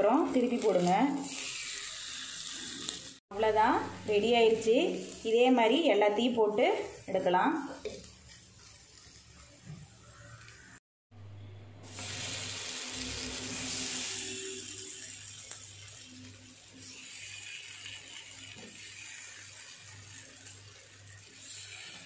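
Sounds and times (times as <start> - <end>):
food sizzling in hot oil: 0.0 - 10.8, 11.8 - 22.0.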